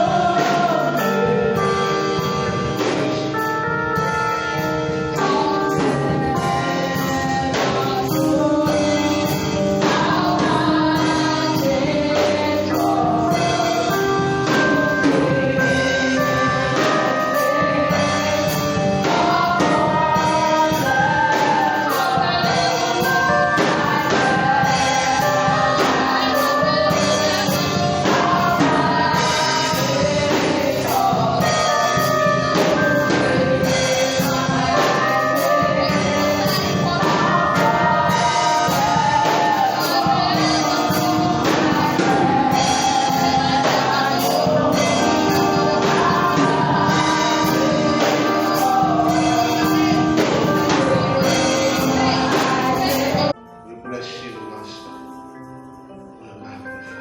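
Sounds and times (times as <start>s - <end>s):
choir singing a worship song: 0.0s - 53.4s
instrumental accompaniment: 0.0s - 57.0s.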